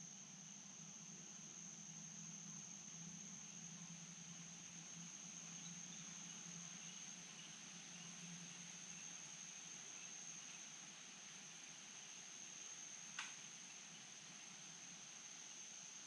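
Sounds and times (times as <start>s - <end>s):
high-pitched insect trill: 0.0s - 16.0s
soft hiss: 0.0s - 16.0s.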